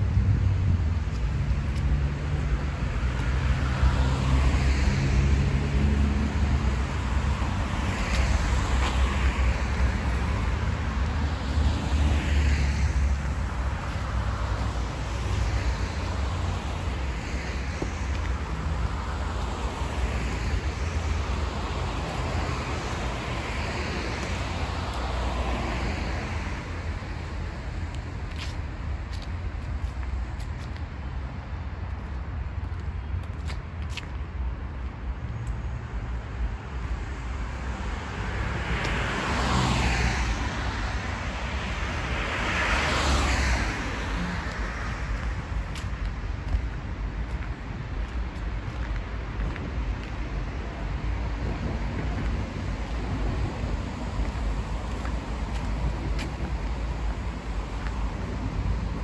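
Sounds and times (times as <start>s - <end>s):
motor vehicles passing: 0.0s - 59.0s.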